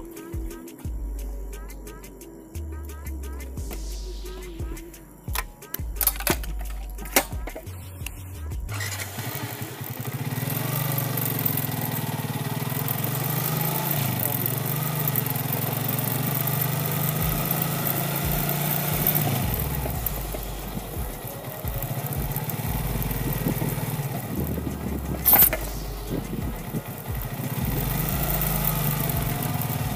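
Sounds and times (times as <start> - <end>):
motorcycle engine running: 3.1 - 29.9.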